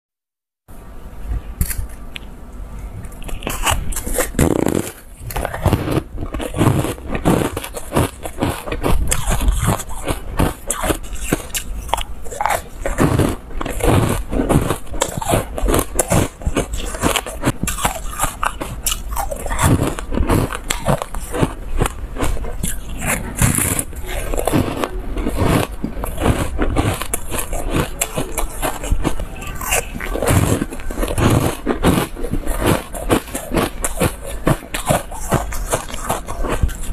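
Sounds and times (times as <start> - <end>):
chewing crunchy foam: 3.0 - 36.9.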